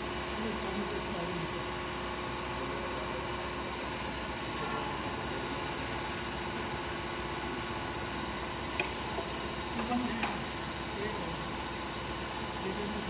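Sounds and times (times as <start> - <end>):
machinery hum with hiss: 0.0 - 13.0.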